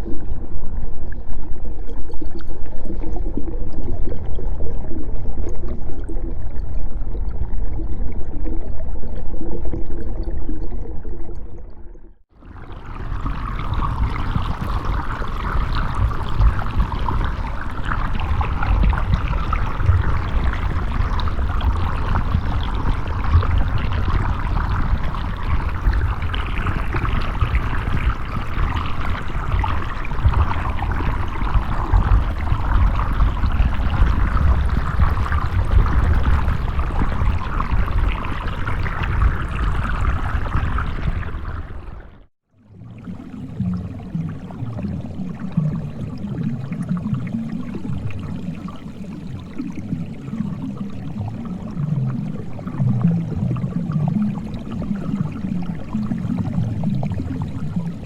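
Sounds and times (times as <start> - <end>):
underwater sewer water rushing: 0.0 - 58.0.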